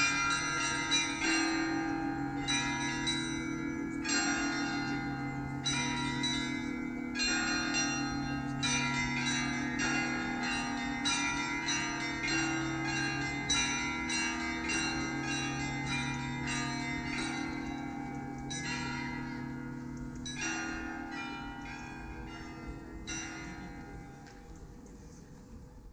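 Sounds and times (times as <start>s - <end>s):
low bells ringing with a hum: 0.0s - 25.9s.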